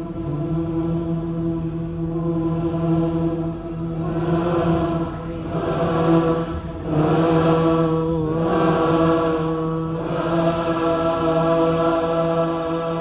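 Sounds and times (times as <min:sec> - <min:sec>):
crowd singing held chords: 0:00.0 - 0:13.0.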